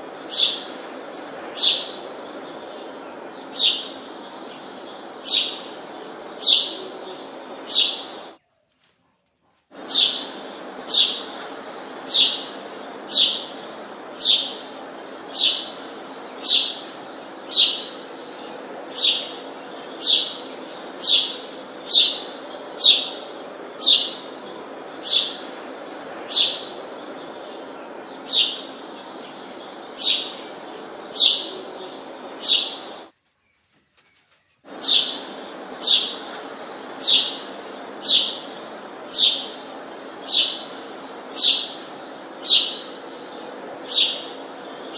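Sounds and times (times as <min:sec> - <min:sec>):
bird chirping: 0:00.0 - 0:08.6, 0:09.8 - 0:44.9
background hiss: 0:00.0 - 0:44.9.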